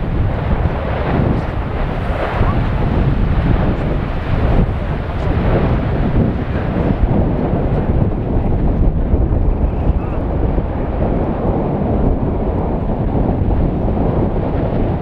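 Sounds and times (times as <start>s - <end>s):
volcano erupting roar: 0.0s - 15.0s
wind buffeting microphone: 0.0s - 15.0s.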